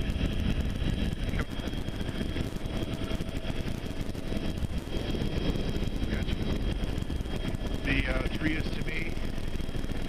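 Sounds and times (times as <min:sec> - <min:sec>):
helicopter hovering: 0:00.0 - 0:10.0
wind on microphone: 0:00.0 - 0:10.0.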